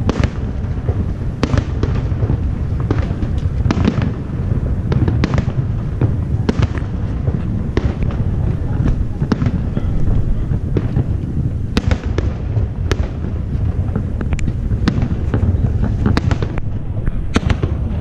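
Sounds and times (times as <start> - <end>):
firework shells bursting: 0.0 - 18.0
low rumble: 0.0 - 18.0.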